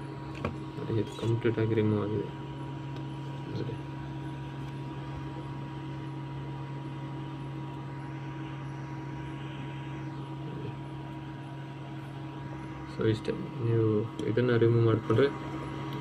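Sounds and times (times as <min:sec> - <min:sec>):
electrical hum: 0:00.0 - 0:16.0
hot-air blower fan hiss: 0:00.0 - 0:16.0.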